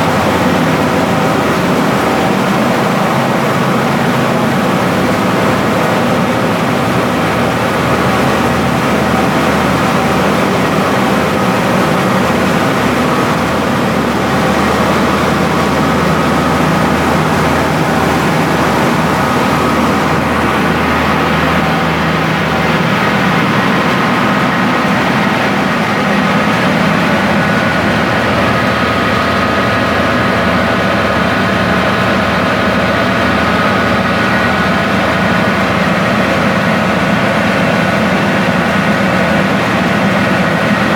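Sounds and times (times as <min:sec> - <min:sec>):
rice milling machine drone: 0:00.0 - 0:40.9.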